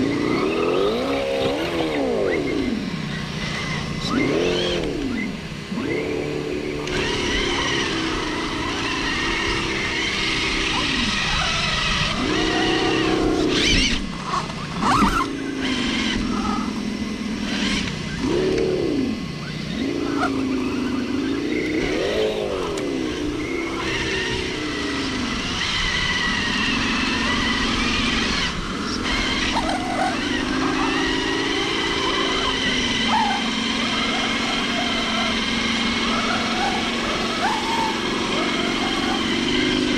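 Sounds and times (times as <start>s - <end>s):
toy truck electric motor whining: 0.0s - 19.7s, 20.7s - 39.9s.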